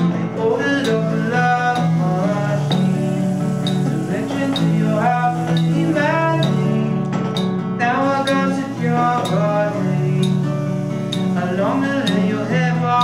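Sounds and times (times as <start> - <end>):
acoustic guitar strumming: 0.0 - 13.0
sliding pitched parts: 0.0 - 13.0.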